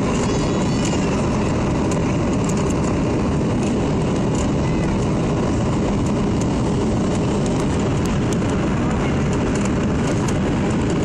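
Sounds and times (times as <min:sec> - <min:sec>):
jet cabin rumble and air rush: 0:00.0 - 0:11.0.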